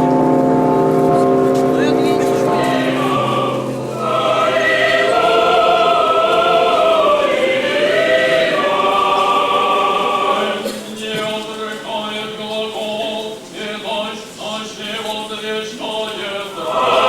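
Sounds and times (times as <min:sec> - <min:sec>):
choir singing a slow chant: 0:01.9 - 0:17.0.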